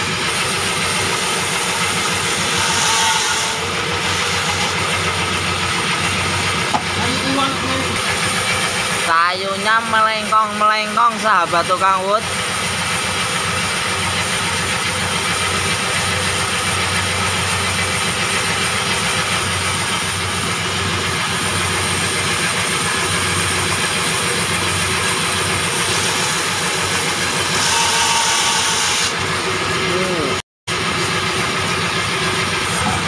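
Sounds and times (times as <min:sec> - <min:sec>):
band saw machinery humming: 0:00.0 - 0:33.0.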